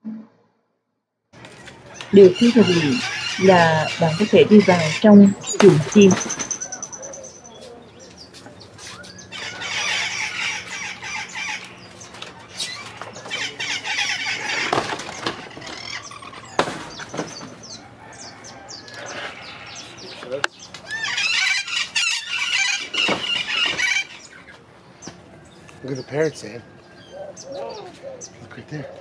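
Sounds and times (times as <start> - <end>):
birds squawking and screeching: 1.4 - 29.0.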